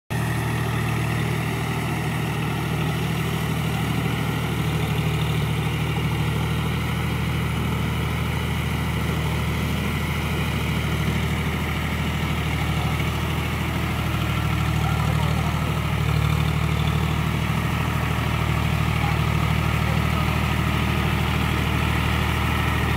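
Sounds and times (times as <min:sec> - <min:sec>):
diesel tractor engine running: 0:00.1 - 0:22.9.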